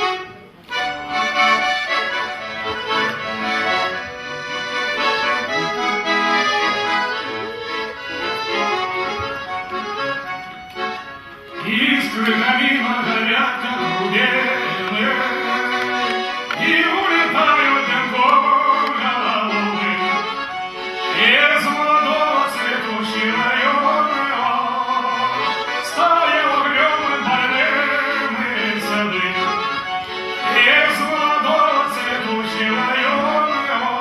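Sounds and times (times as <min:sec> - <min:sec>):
accordion playing slow melody: 0:00.0 - 0:34.0.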